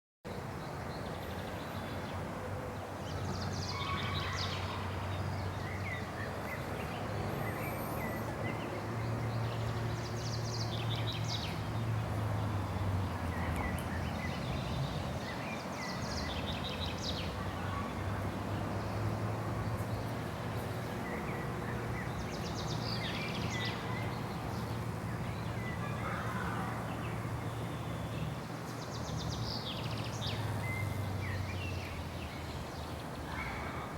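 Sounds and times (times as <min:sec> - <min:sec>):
wild birds chirping: 0:00.3 - 0:33.9.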